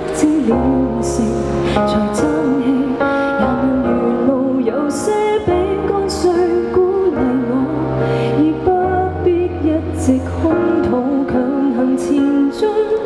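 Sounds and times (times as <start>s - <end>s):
woman singing into microphone: 0.0s - 13.0s.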